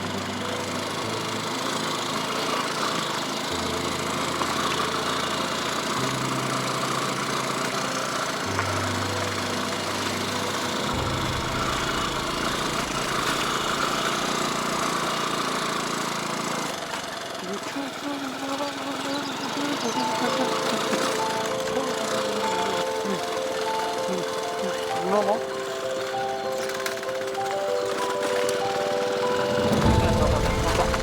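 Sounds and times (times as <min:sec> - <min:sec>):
motorcycle engine running: 0:00.0 - 0:31.0
road noise: 0:00.0 - 0:31.0.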